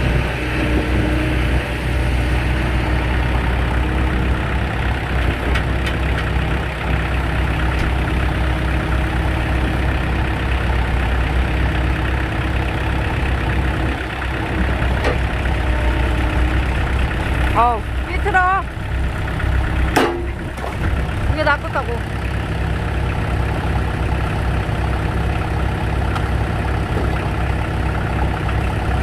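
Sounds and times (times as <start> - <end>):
diesel engine running steadily: 0.0 - 29.0.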